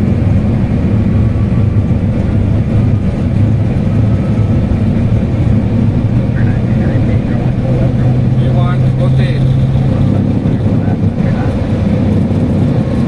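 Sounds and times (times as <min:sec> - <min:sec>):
jet engines rumbling: 0:00.0 - 0:13.0
wheels rolling on runway: 0:00.0 - 0:13.0.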